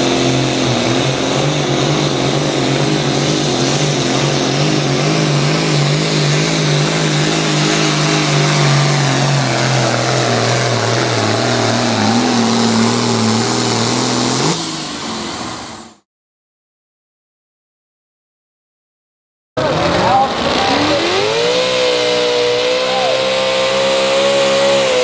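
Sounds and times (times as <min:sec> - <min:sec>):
diesel tractor engine under load: 0:00.0 - 0:16.0, 0:19.6 - 0:25.0.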